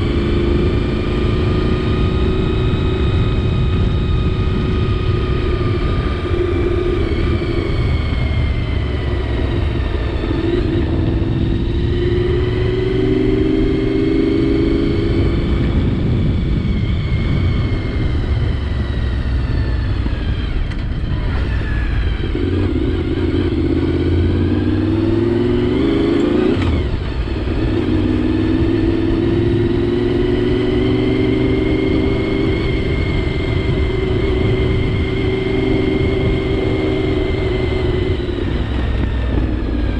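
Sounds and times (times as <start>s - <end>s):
motorcycle engine accelerating: 0.0s - 39.9s
wind noise on microphone: 0.0s - 39.9s.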